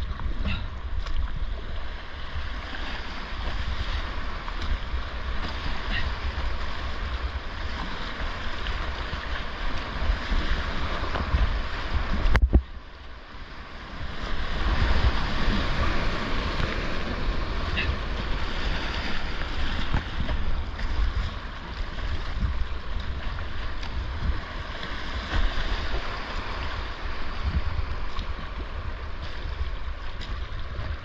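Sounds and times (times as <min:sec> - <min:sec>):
whitewater rushing and splashing: 0:00.0 - 0:31.0
wind rumble on microphone: 0:00.0 - 0:31.0.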